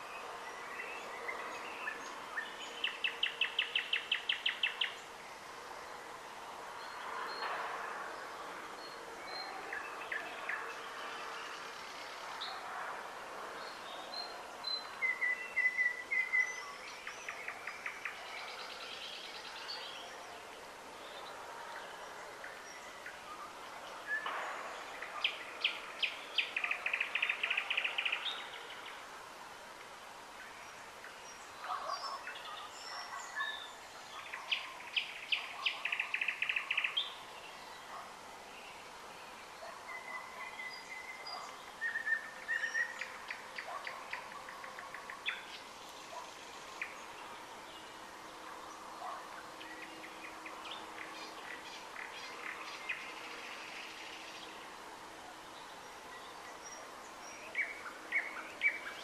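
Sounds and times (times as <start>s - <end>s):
songbird singing trills: 0.0s - 5.5s, 13.6s - 29.1s, 30.4s - 54.8s, 55.4s - 59.0s.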